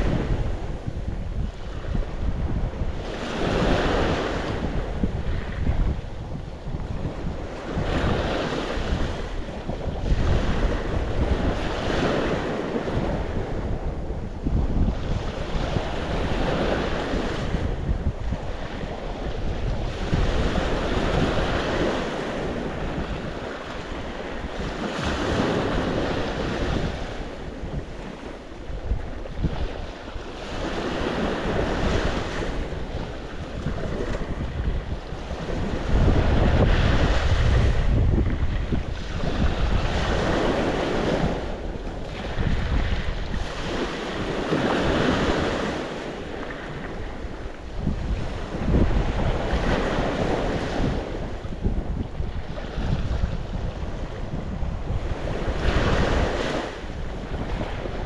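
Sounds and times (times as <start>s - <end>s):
sea waves breaking: 0.0s - 58.0s
wind rumble on microphone: 0.0s - 58.0s.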